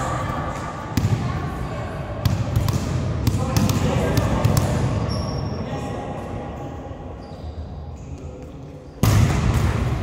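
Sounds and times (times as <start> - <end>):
gym hall ambience: 0.0 - 10.0.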